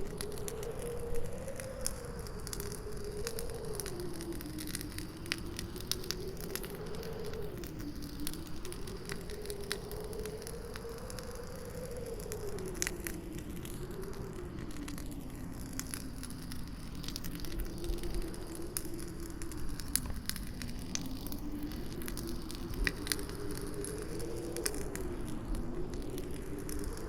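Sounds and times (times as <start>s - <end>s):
campfire crackling and popping: 0.0s - 27.0s
howling wind: 0.0s - 27.0s.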